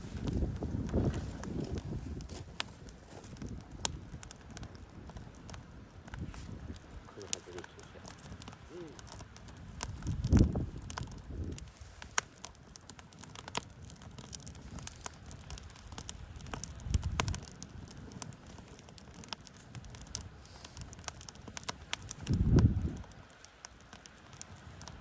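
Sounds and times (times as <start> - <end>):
campfire crackling: 0.0 - 25.0
sharp pops and ticks: 0.0 - 25.0.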